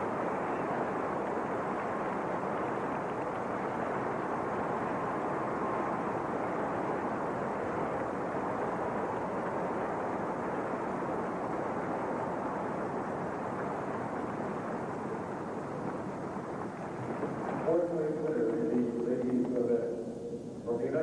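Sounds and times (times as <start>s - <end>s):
arena crowd applauding and cheering: 0.0s - 19.7s.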